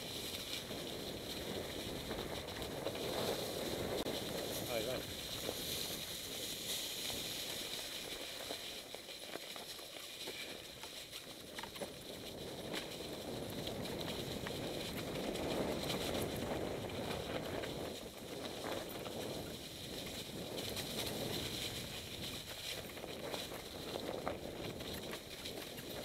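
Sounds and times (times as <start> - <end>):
bike clicks and rattles: 0.0 - 26.0
bike tyres rolling over leaves: 0.0 - 26.0.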